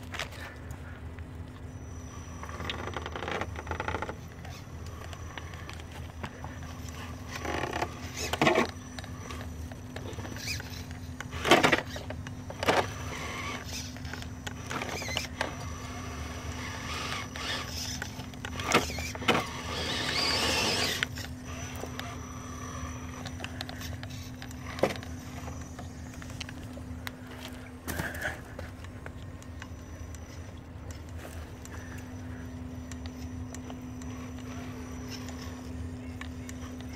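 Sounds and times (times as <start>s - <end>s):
steady low hum: 0.0s - 36.9s
electric motor whining: 1.6s - 36.9s.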